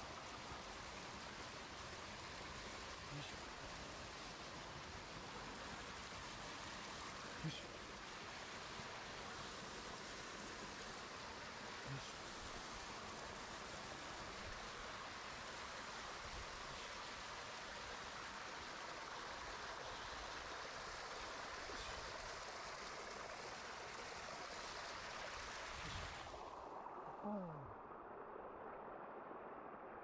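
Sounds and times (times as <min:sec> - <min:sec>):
stream water rushing over rocks: 0:00.0 - 0:29.7.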